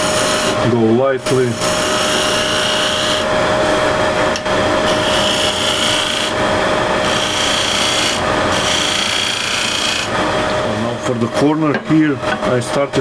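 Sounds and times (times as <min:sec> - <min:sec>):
wood lathe humming: 0:00.0 - 0:12.8.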